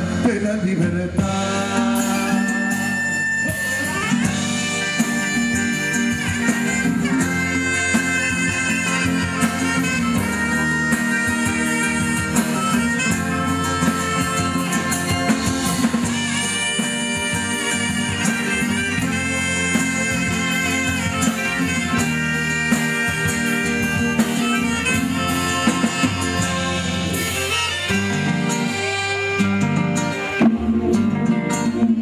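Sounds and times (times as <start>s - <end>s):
live band playing instrumental: 0.0s - 32.0s.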